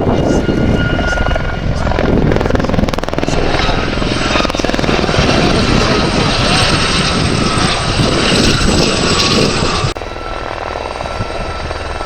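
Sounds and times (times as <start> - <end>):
helicopter rotor pulsing: 0.0 - 12.0
helicopter turbine rushing and whine: 0.0 - 12.0.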